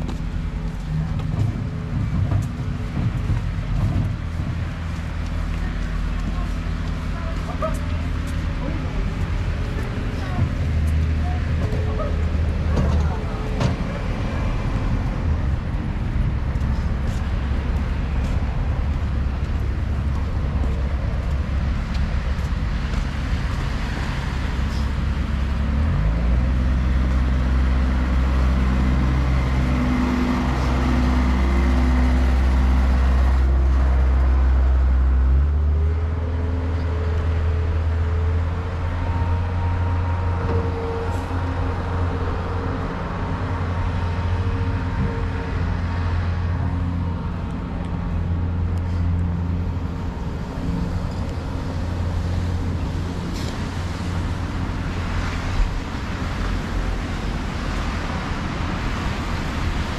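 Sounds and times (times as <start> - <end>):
loader diesel engine revving: 0.0 - 59.9
low traffic rumble: 0.0 - 59.9.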